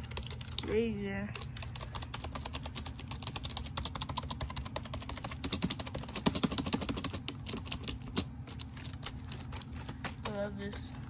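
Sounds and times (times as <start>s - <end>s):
fast keyboard typing: 0.0s - 11.0s.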